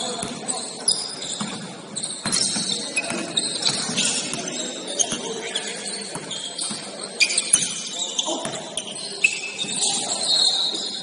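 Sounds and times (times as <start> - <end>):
sneakers squeaking on hardwood: 0.0 - 11.0.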